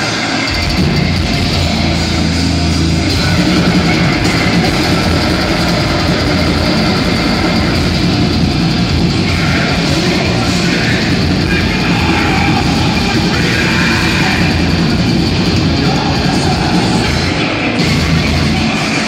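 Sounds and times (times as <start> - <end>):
heavy metal band playing live: 0.0 - 19.0.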